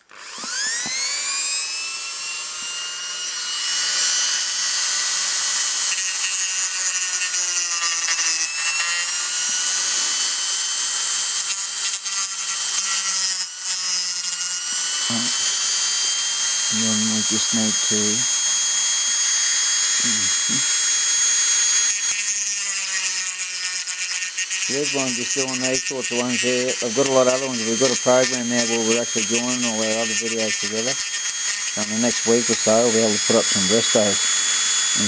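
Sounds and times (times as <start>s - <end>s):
rotary tool grinding metal: 0.0s - 35.0s
rotary tool whining: 0.0s - 35.0s.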